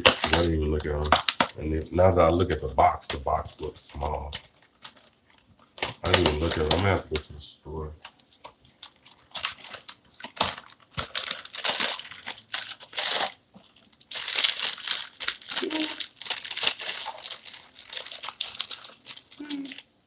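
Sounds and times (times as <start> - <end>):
plastic wrapper crackling: 0.0 - 1.9, 4.0 - 7.4, 8.0 - 20.0.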